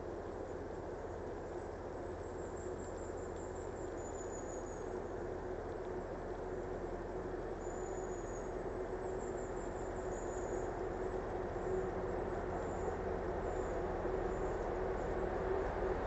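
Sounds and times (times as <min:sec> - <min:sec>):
distant rumble with hum: 0:00.0 - 0:16.0.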